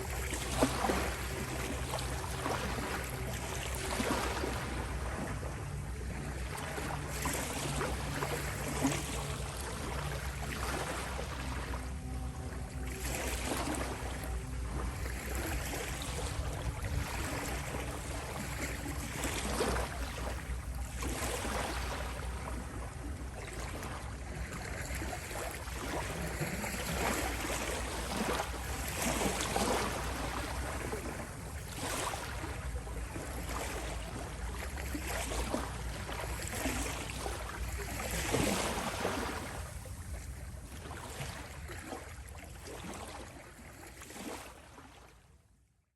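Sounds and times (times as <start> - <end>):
ocean waves washing: 0.0 - 43.3.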